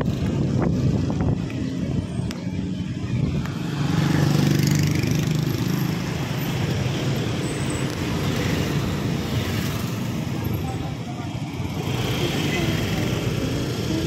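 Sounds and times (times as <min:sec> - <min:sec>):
road noise: 0:00.0 - 0:14.0
vehicle engine rumble: 0:00.0 - 0:14.0.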